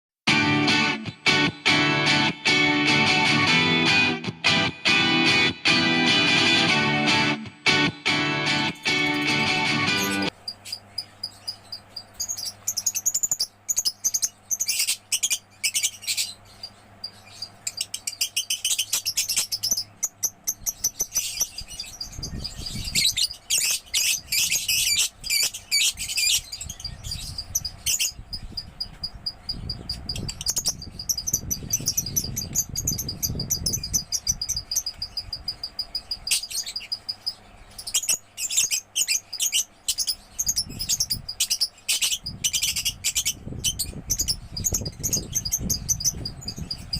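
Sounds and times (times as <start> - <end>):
lovebird chattering: 8.8 - 46.9.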